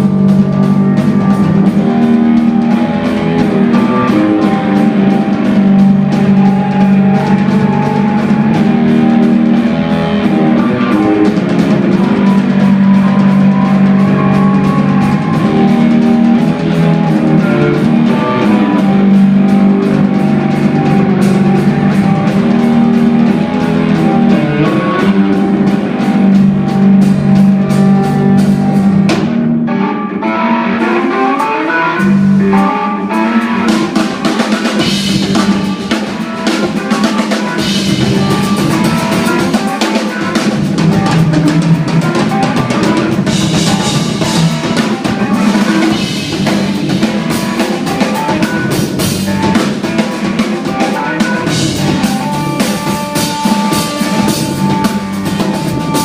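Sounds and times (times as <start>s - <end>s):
drum kit: 0.0s - 56.0s
live instrumental rock band: 0.0s - 56.0s.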